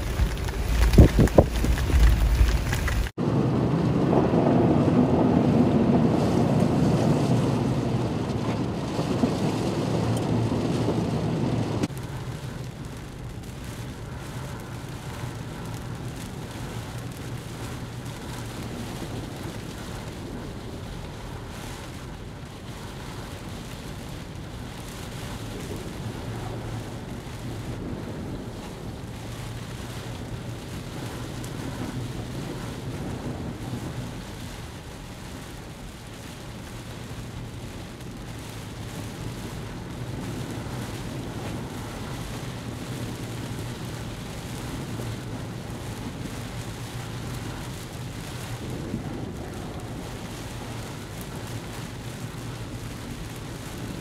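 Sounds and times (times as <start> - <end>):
wind and rain around vehicle: 0.0 - 54.0.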